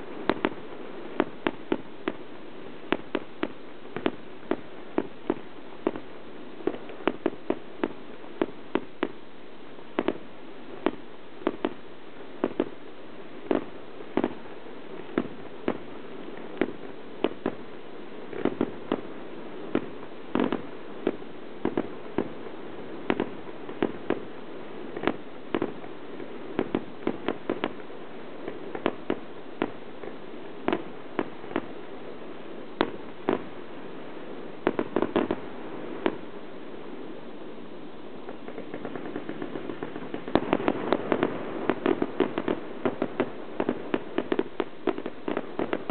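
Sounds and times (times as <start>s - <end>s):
fireworks bursting with sharp bangs: 0.0s - 45.9s
steady background hiss: 0.0s - 45.9s.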